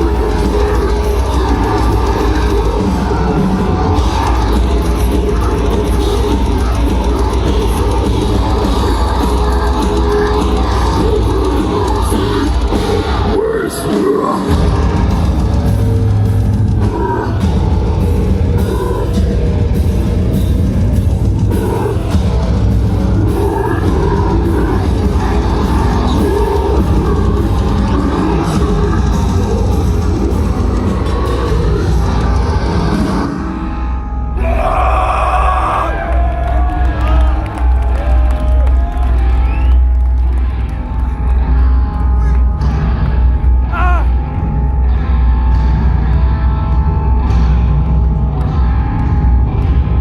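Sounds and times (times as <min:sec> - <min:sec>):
heavy metal band playing live: 0:00.0 - 0:50.0.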